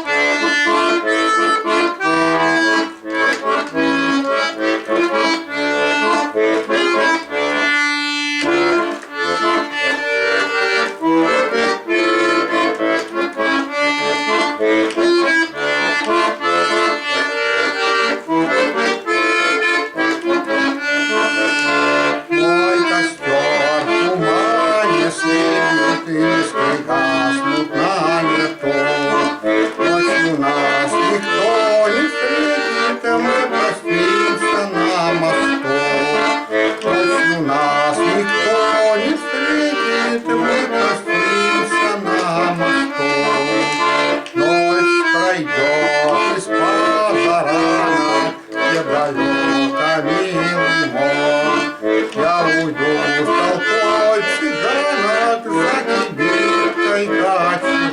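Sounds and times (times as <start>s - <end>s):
button accordion solo: 0.0s - 57.9s.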